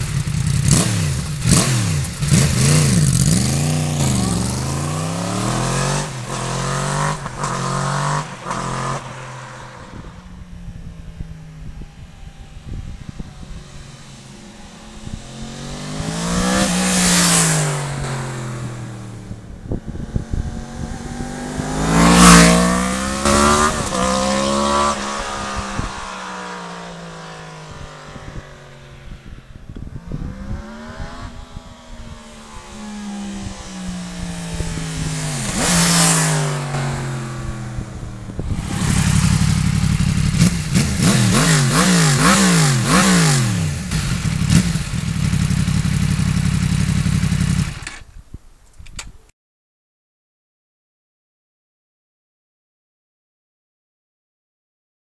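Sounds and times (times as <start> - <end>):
motorcycle engine accelerating: 0.0 - 48.2.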